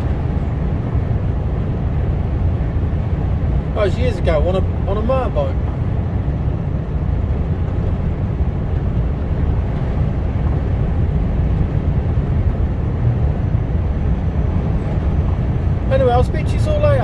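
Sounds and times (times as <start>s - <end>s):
truck engine rumble: 0.0s - 17.0s
tyres on road: 0.0s - 17.0s.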